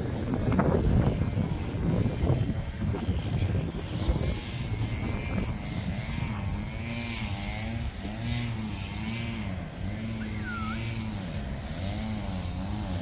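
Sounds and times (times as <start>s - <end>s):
engine hum rising and falling: 0.0s - 13.0s.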